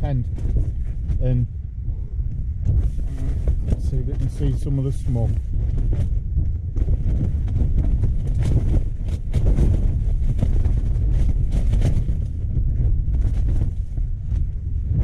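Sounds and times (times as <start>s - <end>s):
strong gusting wind: 0.0s - 15.0s
tent fabric flapping: 2.6s - 15.0s.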